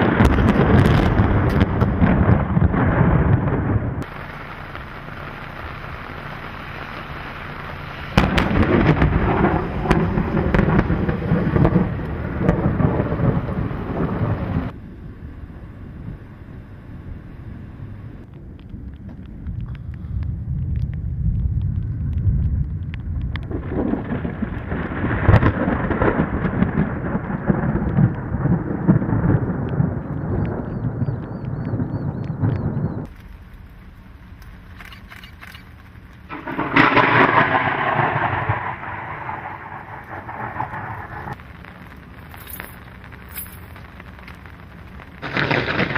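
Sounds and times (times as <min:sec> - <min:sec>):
thunder rumbling and cracking: 0:00.0 - 0:17.3, 0:18.2 - 0:45.9.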